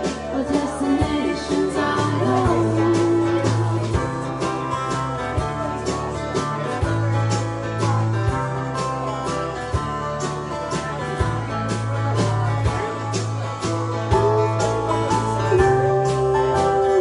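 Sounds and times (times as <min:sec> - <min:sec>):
bass line: 0:00.0 - 0:17.0
steady drum beat: 0:00.0 - 0:17.0
strummed acoustic guitar: 0:00.0 - 0:17.0.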